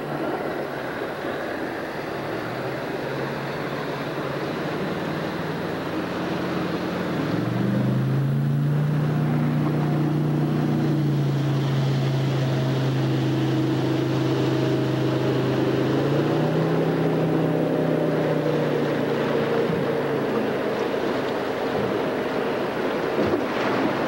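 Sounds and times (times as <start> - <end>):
motorboat engine droning: 0.0 - 24.0.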